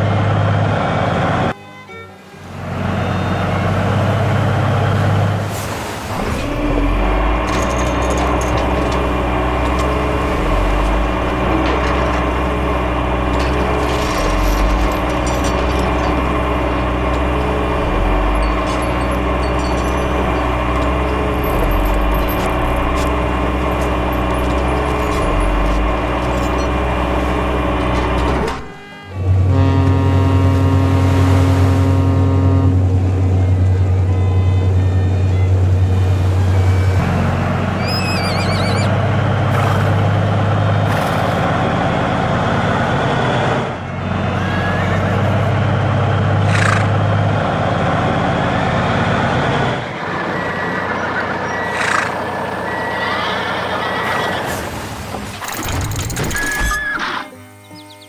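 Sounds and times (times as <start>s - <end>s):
vehicle engine humming: 0.0s - 58.0s.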